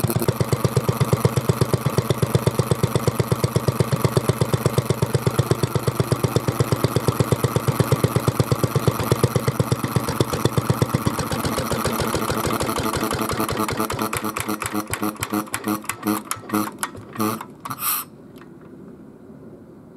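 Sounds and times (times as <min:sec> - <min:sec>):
stationary engine slowing to a stop: 0:00.0 - 0:17.5.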